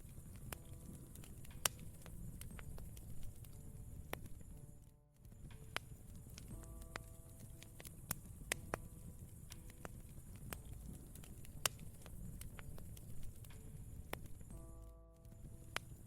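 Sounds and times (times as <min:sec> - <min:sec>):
campfire crackling and popping: 0:00.0 - 0:16.0
faint low piano notes: 0:00.0 - 0:16.0
steady low rumble: 0:00.0 - 0:16.0.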